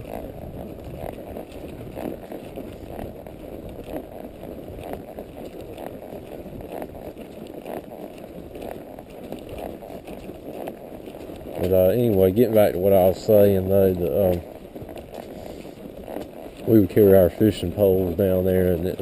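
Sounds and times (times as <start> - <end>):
horse hoof footfalls: 0.0 - 19.0
rumble of movement and rustling: 0.0 - 19.0.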